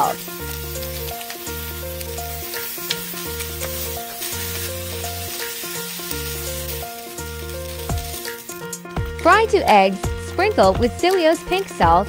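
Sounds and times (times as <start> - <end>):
spinach sizzling in a pan: 0.0 - 11.6.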